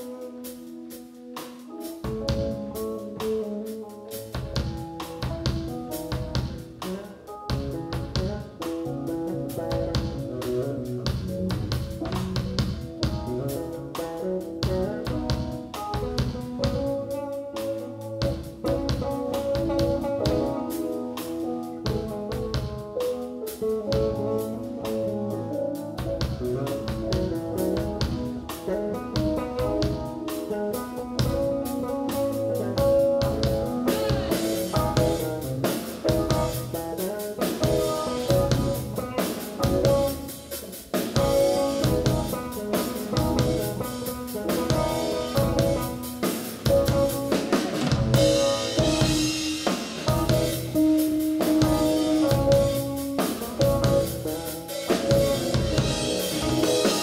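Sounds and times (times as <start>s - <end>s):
cymbals: 0.0s - 57.0s
drum kit: 0.0s - 57.0s
electric bass: 2.1s - 57.0s.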